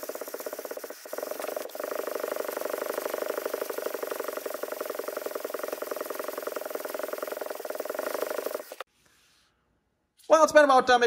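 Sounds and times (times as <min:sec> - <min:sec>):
metal scrubbing on sandpaper: 0:00.0 - 0:08.9.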